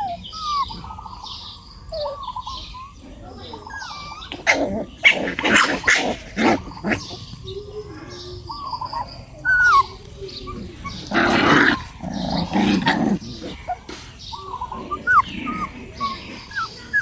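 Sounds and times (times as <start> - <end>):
dog high-pitched calls: 0.0 - 17.0
dog barking: 2.0 - 17.0.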